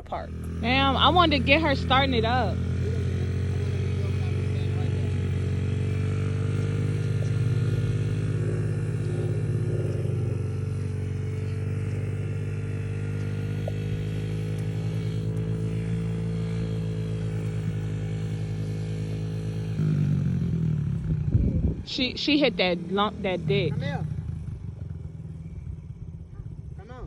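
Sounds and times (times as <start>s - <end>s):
dirt bike engine idling: 0.0s - 27.0s.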